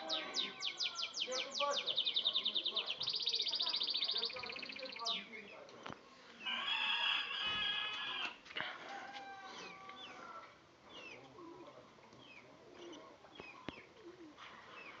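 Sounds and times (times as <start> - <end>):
small birds chirping: 0.0 - 6.7, 9.5 - 15.0.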